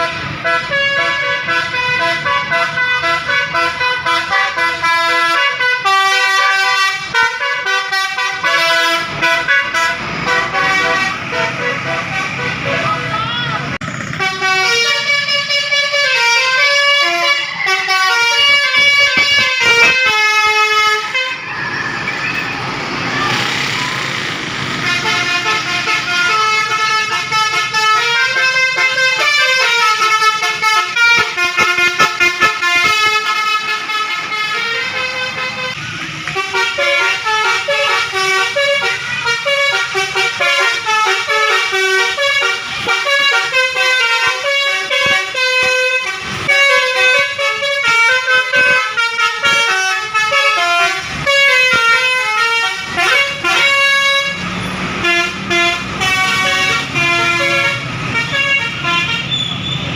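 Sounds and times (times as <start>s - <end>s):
multi-trumpet bus air horn melody: 0.0s - 13.5s, 14.1s - 21.5s, 24.6s - 59.8s.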